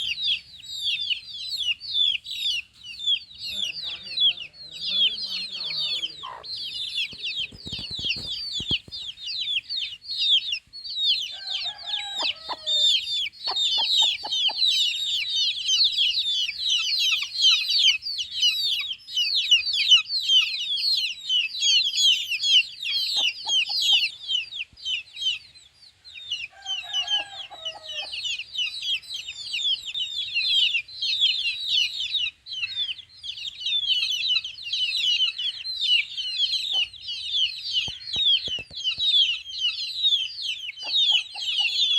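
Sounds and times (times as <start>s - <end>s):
chicks peeping: 0.0s - 41.9s
lower bird call: 0.0s - 41.9s.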